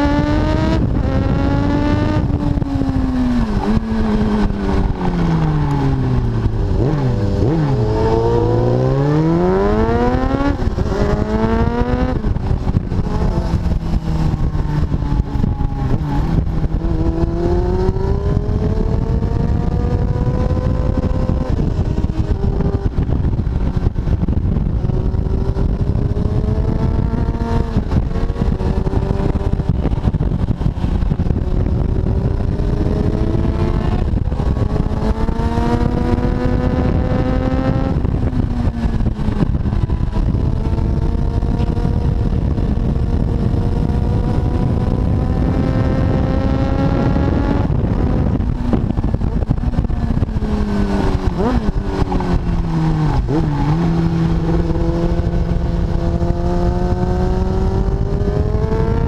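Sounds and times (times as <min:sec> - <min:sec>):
motorcycle engine at speed: 0:00.0 - 0:59.0
wind rush on microphone: 0:00.0 - 0:59.0.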